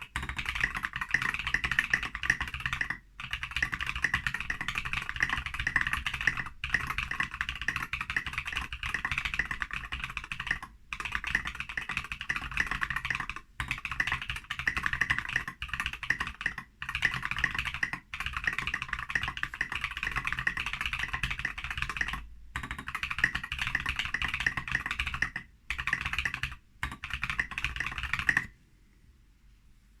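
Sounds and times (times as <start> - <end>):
mechanical keyboard typing: 0.0 - 28.5.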